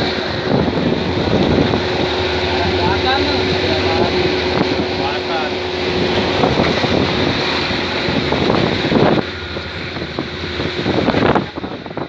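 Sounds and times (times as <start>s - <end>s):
boat engine: 0.0s - 12.0s
water rushing: 0.0s - 12.0s
wind buffeting microphone: 0.0s - 12.0s.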